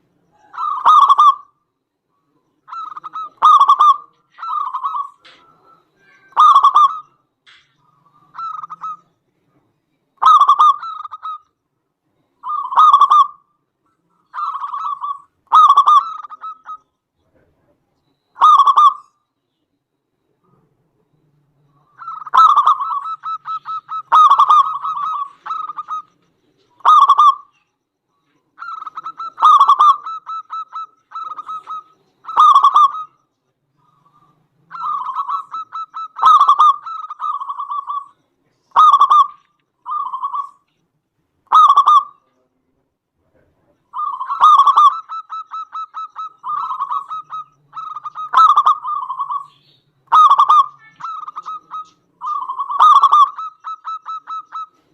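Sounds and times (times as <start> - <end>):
dove cooing: 0.0 - 1.6, 2.2 - 9.1, 10.2 - 11.4, 12.4 - 13.5, 14.1 - 17.5, 18.4 - 19.1, 21.5 - 27.6, 28.2 - 33.2, 33.8 - 40.7, 41.5 - 42.4, 43.4 - 54.9.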